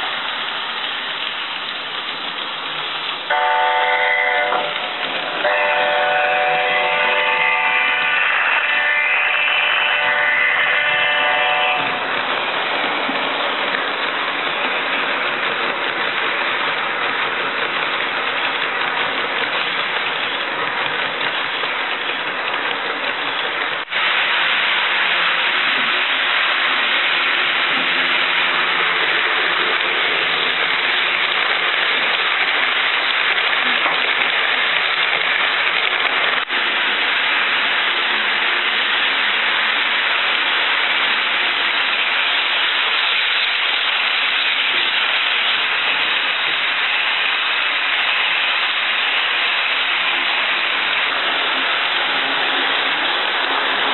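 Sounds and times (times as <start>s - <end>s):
model trains rolling on track: 0.0s - 53.9s.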